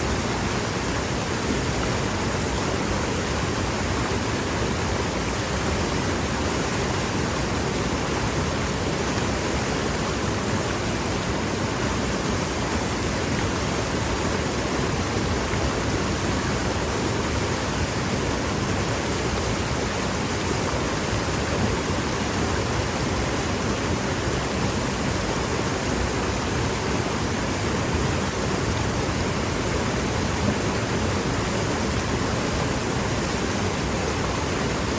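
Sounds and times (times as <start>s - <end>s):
stream rushing over boulders: 0.0s - 34.9s.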